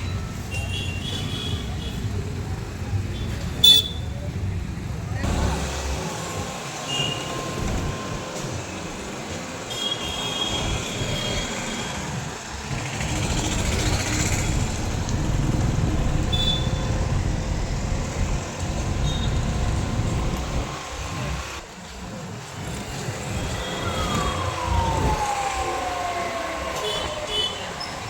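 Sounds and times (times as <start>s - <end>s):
large vehicle rumbling: 0.0s - 9.7s, 10.6s - 28.0s.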